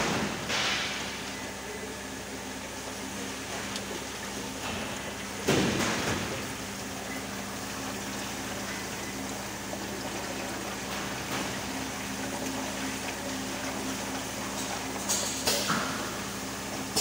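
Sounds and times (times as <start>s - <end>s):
pump humming: 0.0s - 17.0s.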